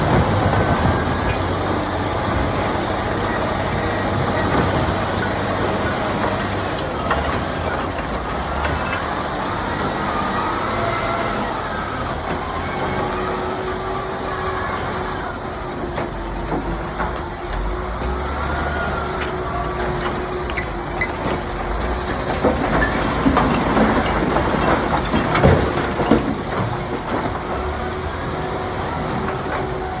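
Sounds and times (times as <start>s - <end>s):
heavy machine engine rumble: 0.0s - 30.0s.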